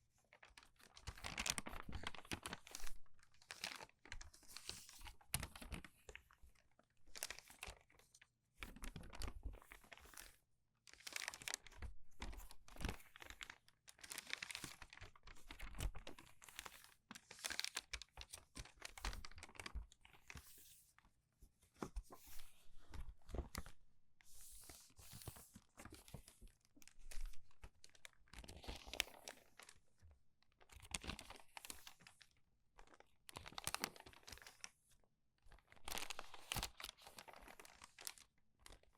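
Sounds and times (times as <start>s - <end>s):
crinkly paper pages turning: 0.3s - 21.0s, 21.6s - 30.0s, 30.6s - 38.9s.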